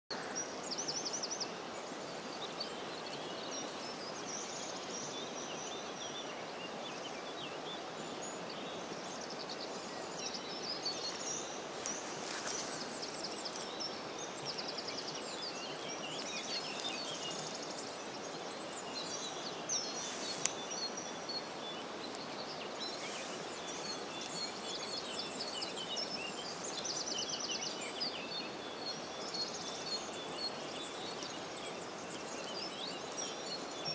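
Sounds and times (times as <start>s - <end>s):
small birds chirping: 0.1s - 33.9s
river water rushing: 0.2s - 33.9s.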